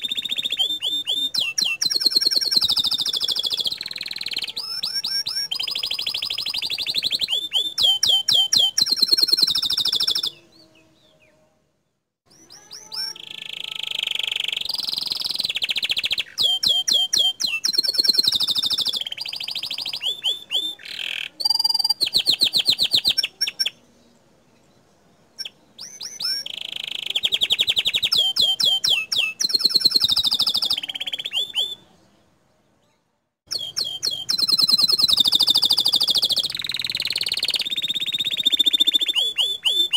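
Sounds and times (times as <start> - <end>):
canary singing high trills: 0.0 - 11.3, 12.3 - 23.8, 25.4 - 32.0, 33.5 - 39.9.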